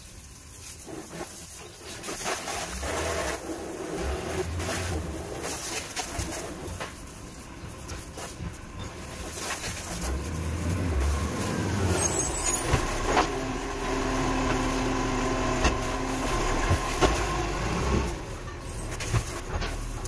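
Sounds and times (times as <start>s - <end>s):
truck engine: 0.9s - 20.0s.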